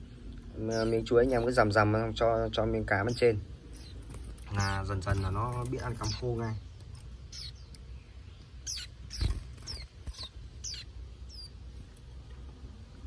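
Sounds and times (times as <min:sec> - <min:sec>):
birds chirping high: 0:00.0 - 0:13.0.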